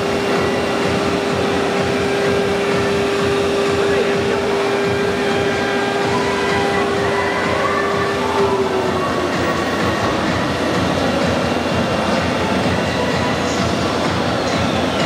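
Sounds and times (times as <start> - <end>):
grinding cutting noise: 0.0 - 15.0
router spindle whining: 0.0 - 15.0.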